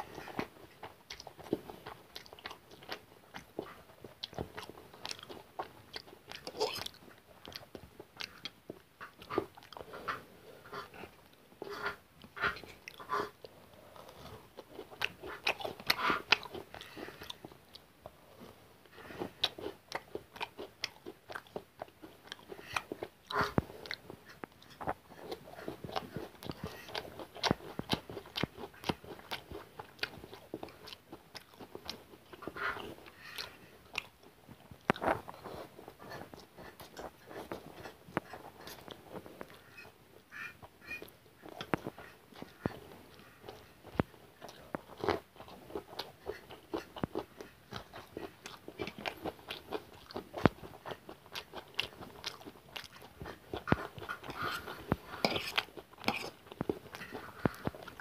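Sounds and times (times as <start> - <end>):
man chewing and slurping noodles: 0.0 - 58.0.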